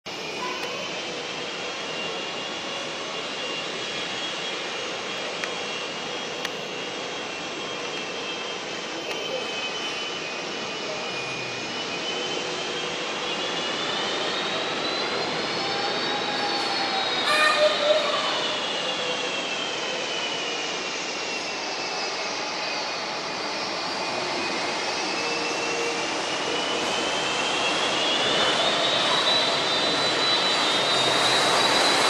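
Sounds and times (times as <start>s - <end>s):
jet engines whining: 0.1s - 32.0s.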